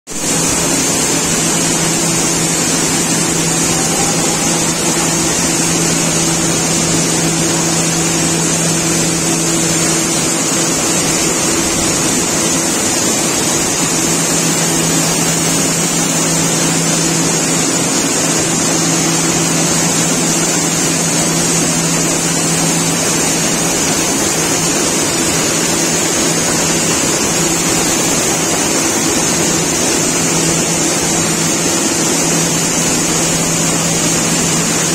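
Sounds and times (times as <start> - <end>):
low machine hum: 0.2 - 34.9
machinery running: 0.2 - 34.9.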